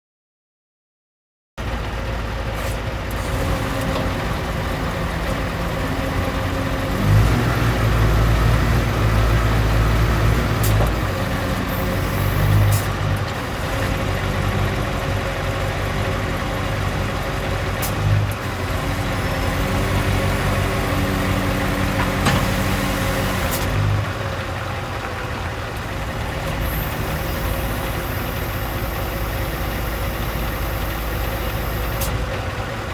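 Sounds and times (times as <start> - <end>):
diesel truck engine idling: 1.6 - 32.9.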